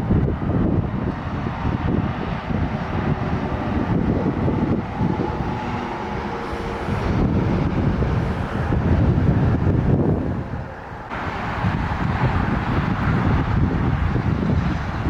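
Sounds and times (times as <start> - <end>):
highway traffic passing: 0.0 - 15.0
wind buffeting microphone: 0.0 - 15.0
faint steady engine tone: 1.9 - 15.0.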